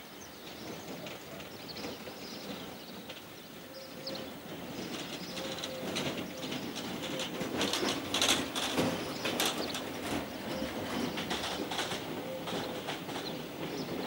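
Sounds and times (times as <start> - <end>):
birds chirping: 0.2 - 14.0.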